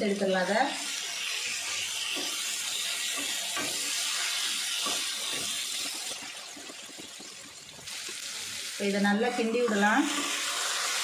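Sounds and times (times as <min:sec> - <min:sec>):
chicken sizzling on a griddle: 0:00.0 - 0:11.0.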